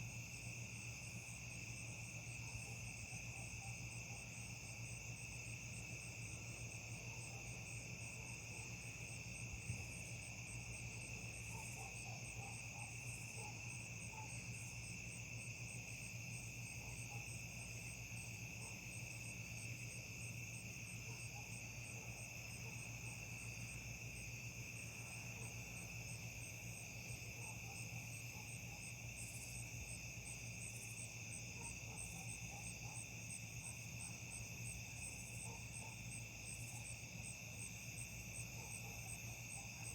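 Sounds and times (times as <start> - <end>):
crickets and insects trilling: 0.1 - 39.9.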